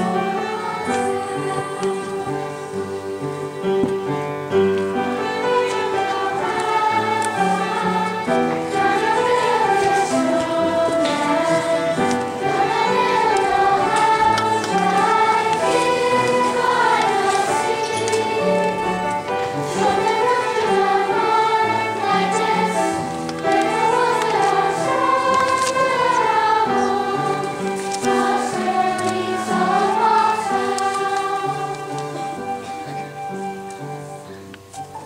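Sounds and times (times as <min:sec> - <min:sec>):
group singing: 0:00.0 - 0:03.3, 0:05.6 - 0:32.6
instrumental accompaniment: 0:00.0 - 0:35.0.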